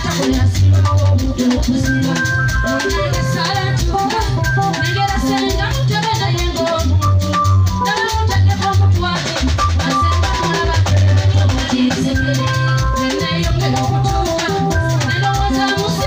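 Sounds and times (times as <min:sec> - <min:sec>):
amplified live band music: 0:00.0 - 0:16.0
woman singing into a microphone: 0:00.0 - 0:16.0.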